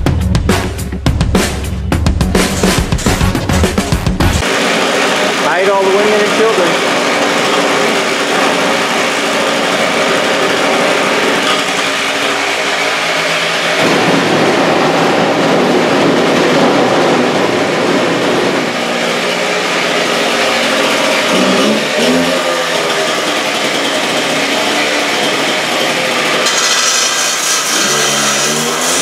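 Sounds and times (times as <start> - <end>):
two-stroke saw engine running: 2.1 - 29.0.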